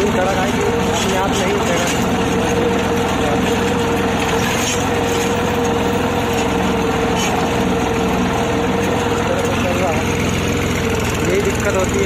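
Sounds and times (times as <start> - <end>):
constant whine: 0.0 - 12.0
tractor diesel engine running: 0.0 - 12.0.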